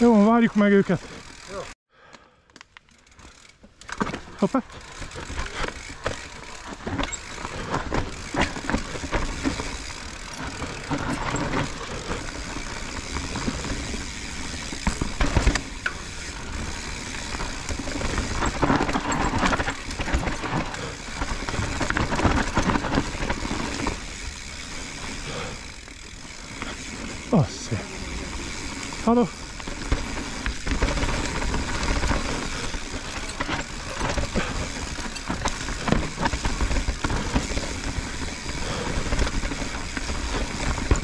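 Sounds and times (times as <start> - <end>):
bike tyres rolling over dirt: 0.0 - 1.7, 2.7 - 41.0
bike rattling over bumps: 2.9 - 41.0.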